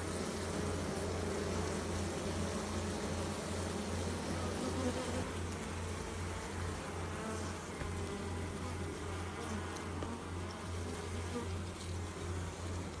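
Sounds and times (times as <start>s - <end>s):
bee buzzing: 0.1s - 13.0s.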